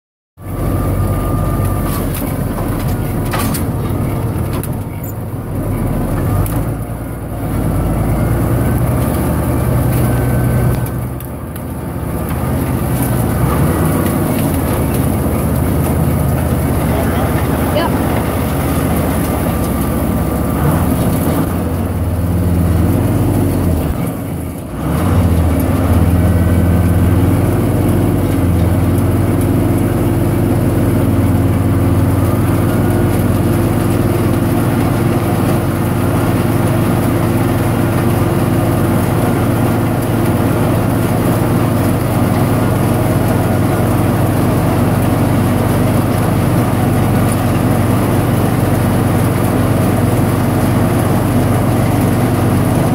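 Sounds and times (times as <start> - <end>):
tractor engine under load: 0.4 - 52.9
forage harvester chopping corn: 1.0 - 52.9.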